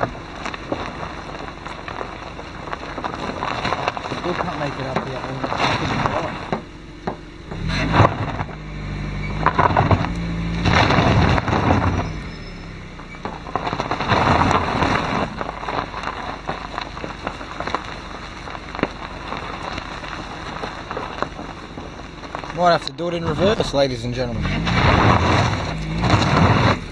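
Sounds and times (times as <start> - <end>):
car engine revving: 0.0 - 26.9
tyres crunching over gravel: 0.0 - 26.9.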